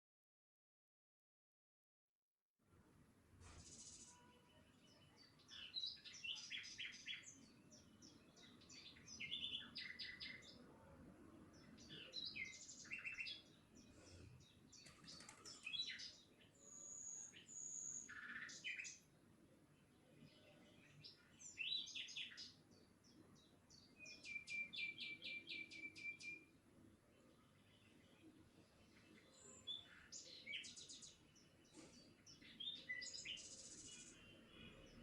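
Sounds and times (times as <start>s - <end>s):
birds chirping and trilling: 3.4s - 10.7s, 11.5s - 19.2s, 19.8s - 35.0s.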